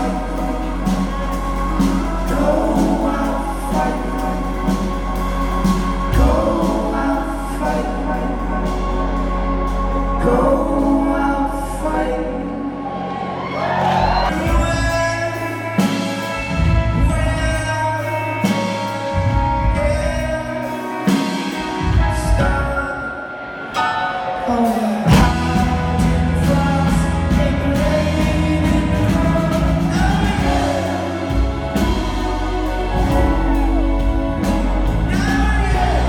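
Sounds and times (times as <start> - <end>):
indie rock band playing live: 0.0 - 36.0
person singing: 0.0 - 36.0.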